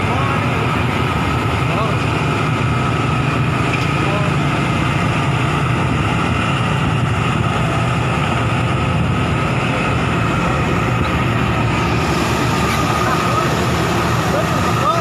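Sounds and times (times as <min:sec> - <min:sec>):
diesel engine rumbling: 0:00.0 - 0:15.0
high whine: 0:00.0 - 0:15.0.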